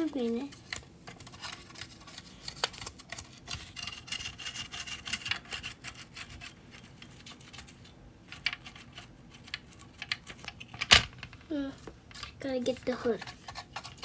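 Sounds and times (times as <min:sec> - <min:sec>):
toothbrush scrubbing plastic: 0:00.0 - 0:10.8, 0:12.1 - 0:14.0.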